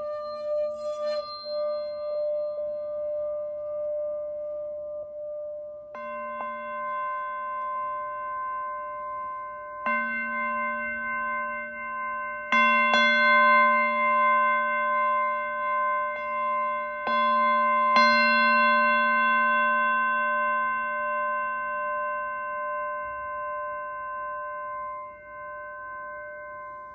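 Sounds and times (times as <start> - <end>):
singing bowls ringing: 0.0 - 26.9.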